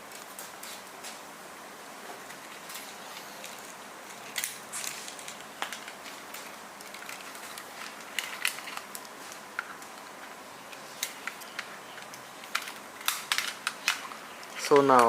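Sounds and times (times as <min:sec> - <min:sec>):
hand tools clicking and rustling: 0:02.3 - 0:15.0.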